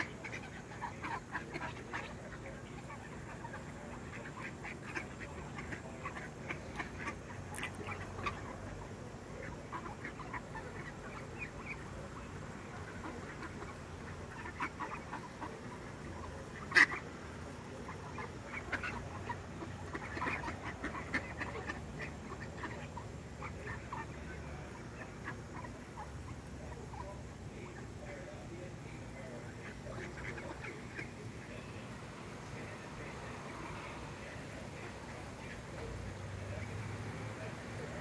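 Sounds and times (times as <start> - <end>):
ducks quacking: 0.0 - 38.0.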